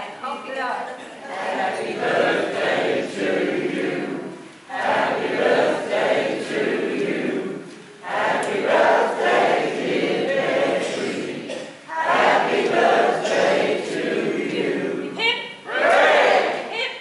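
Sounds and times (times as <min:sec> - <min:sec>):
people singing in unison: 0:01.2 - 0:16.7.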